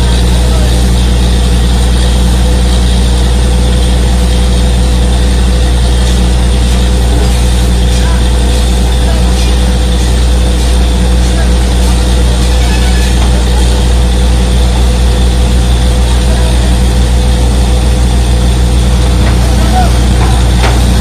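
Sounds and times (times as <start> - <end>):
drilling rig diesel drone: 0.0 - 21.0.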